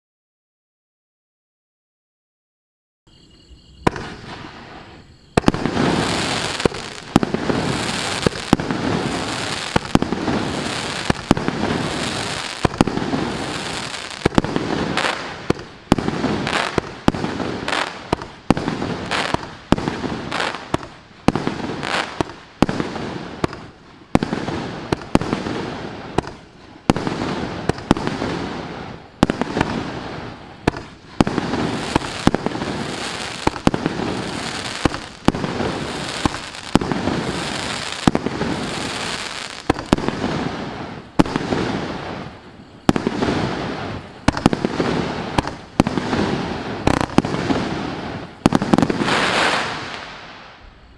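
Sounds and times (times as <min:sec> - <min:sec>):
fireworks bangs: 0:03.8 - 0:50.9.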